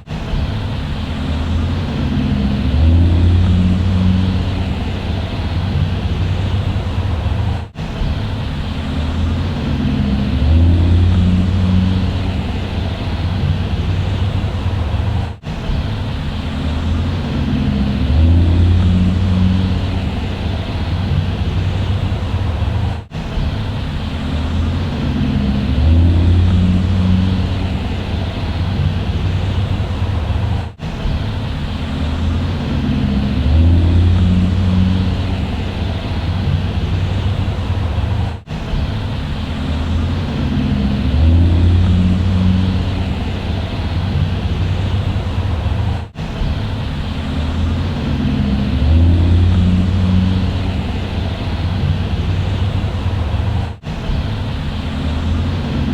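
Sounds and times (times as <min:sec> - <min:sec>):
bus engine rumbling: 0:00.0 - 0:55.9.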